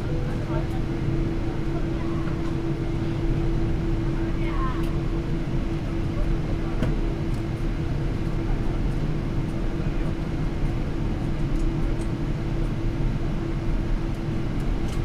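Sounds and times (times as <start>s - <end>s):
aircraft engines and airflow rumble: 0.0s - 15.0s.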